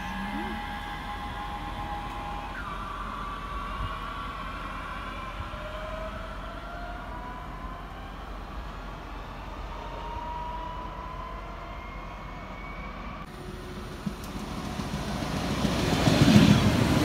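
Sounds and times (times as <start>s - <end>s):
electric train motors whining: 0.0s - 17.0s.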